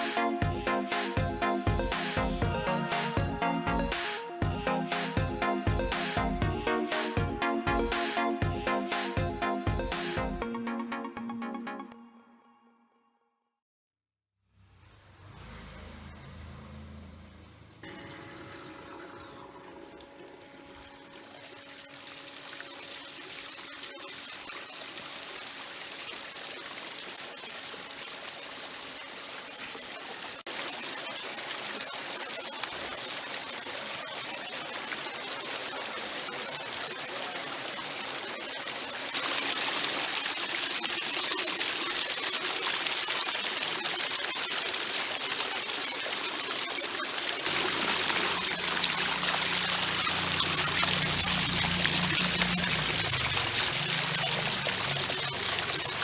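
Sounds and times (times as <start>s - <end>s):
running water rushing: 0.0s - 10.5s, 17.8s - 56.0s.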